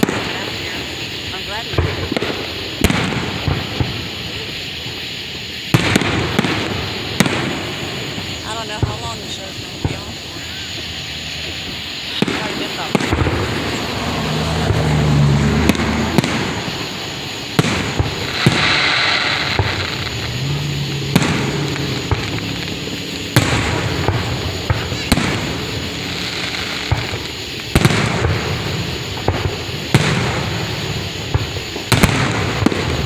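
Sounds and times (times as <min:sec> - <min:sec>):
fireworks booming: 0:00.0 - 0:33.0
hiss: 0:00.0 - 0:33.0
sharp firework bangs: 0:00.0 - 0:33.0.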